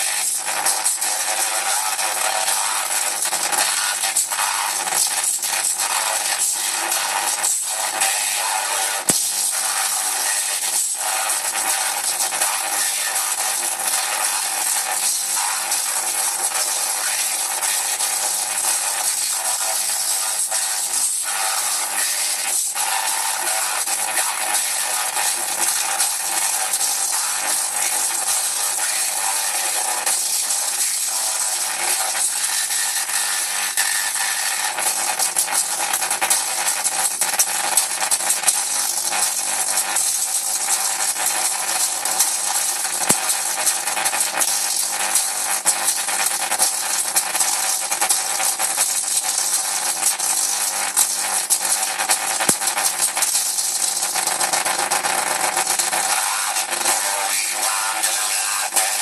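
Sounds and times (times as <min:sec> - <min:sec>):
tesla coil spark buzzing and crackling: 0:00.0 - 0:59.0.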